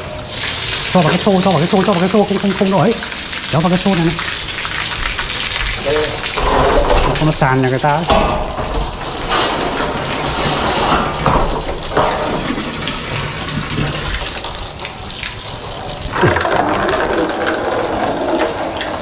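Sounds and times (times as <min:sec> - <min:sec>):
water stream into plastic bucket: 0:00.0 - 0:19.0.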